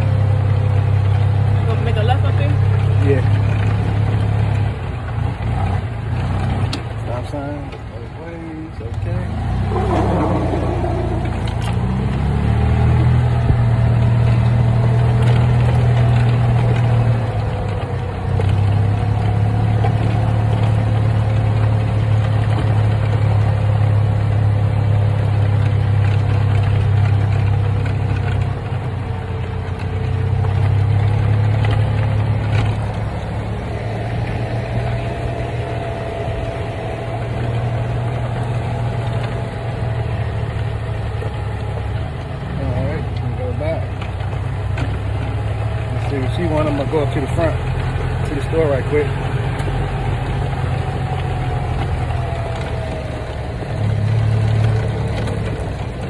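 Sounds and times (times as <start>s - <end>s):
golf cart motor drone: 0.0s - 56.0s.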